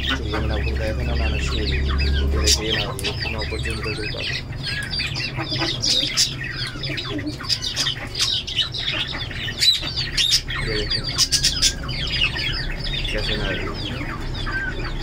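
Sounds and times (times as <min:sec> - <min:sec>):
cage birds chirping and squawking: 0:00.0 - 0:15.0.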